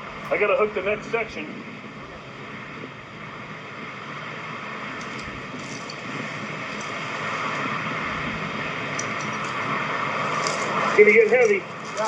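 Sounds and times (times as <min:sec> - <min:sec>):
machine engine running: 0:00.0 - 0:12.0.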